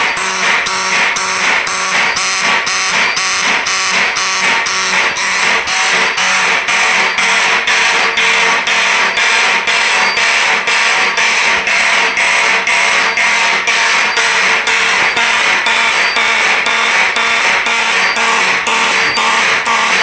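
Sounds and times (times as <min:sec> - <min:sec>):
raspy fire alarm horn blasts: 0:00.0 - 0:20.0.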